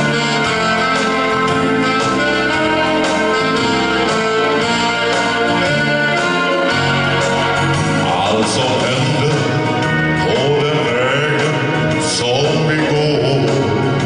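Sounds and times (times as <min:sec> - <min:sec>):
bass line: 0:00.0 - 0:14.0
keyboard chords: 0:00.0 - 0:14.0.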